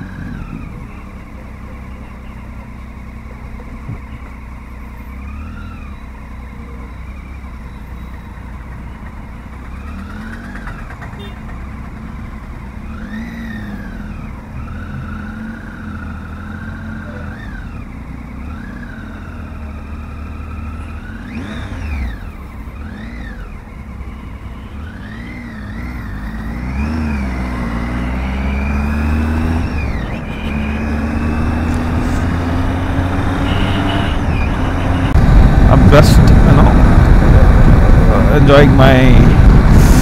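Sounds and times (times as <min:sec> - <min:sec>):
motorcycle engine revving: 0:00.0 - 0:40.0
wind and road noise: 0:00.0 - 0:40.0.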